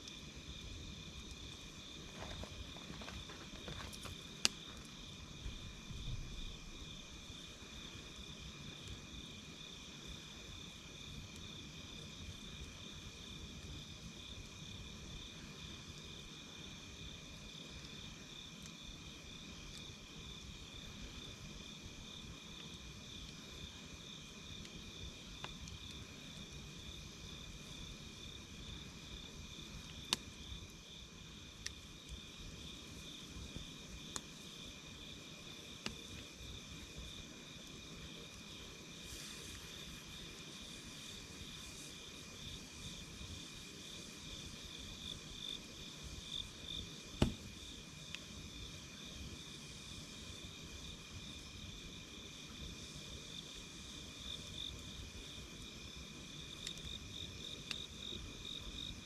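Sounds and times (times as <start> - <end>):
campfire crackles: 0.0 - 59.0
insect steady high tone: 0.0 - 59.0.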